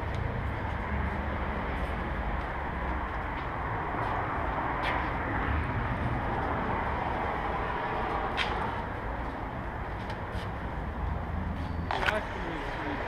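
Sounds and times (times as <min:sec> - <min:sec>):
city traffic hum: 0:00.0 - 0:13.0.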